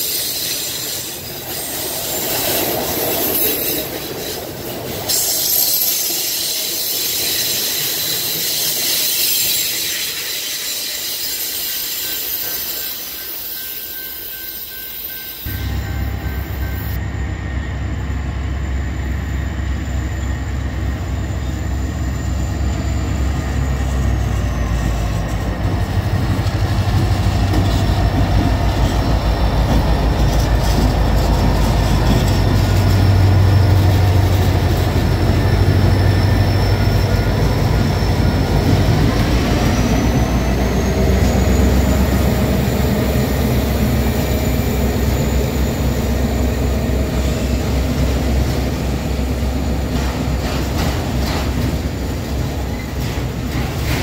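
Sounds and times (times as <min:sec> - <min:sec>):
diesel locomotive engine rumble: 0:00.0 - 0:54.0
train cars rolling over rails: 0:00.0 - 0:54.0.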